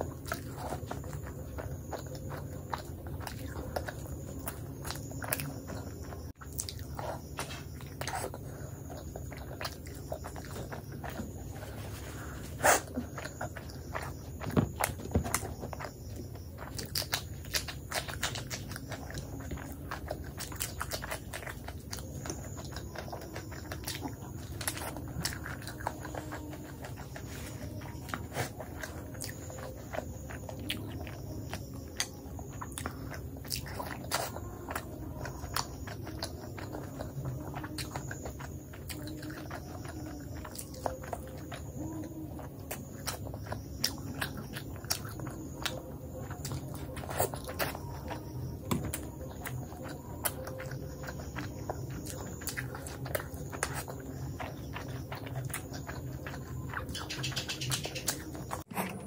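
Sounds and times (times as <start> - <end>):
chewing and wet mouth sounds: 0.0 - 59.0.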